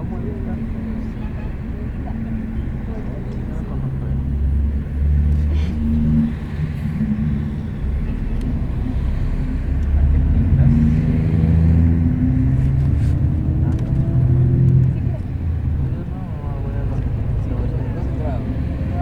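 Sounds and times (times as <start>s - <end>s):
bus engine drone: 0.0s - 19.0s
road rumble: 0.0s - 19.0s.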